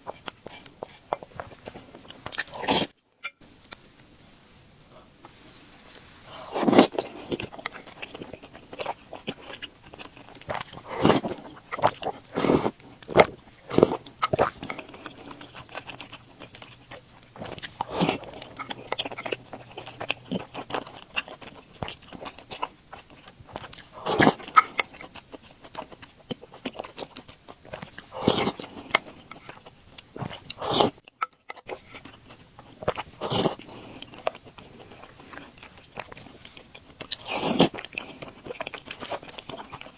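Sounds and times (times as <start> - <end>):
wet chewing and mouth smacks: 6.3 - 39.9.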